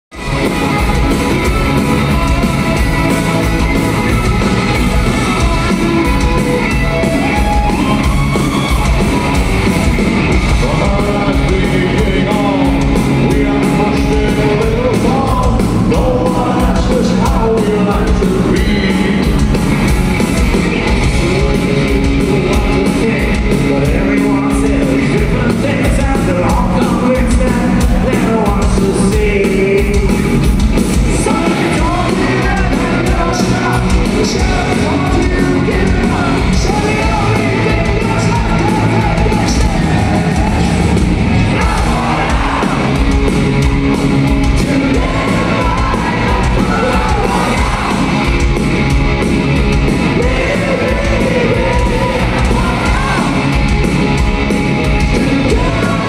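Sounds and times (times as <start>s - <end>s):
drums with cymbal hits: 0.1s - 56.0s
electric guitars: 0.1s - 56.0s
lead vocals: 0.1s - 56.0s.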